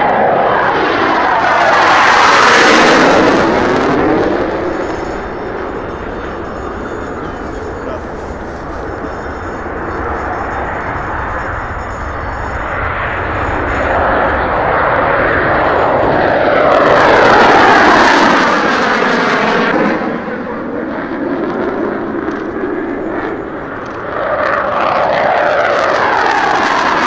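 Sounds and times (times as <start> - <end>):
jet taking off on afterburner: 0.0 - 27.0.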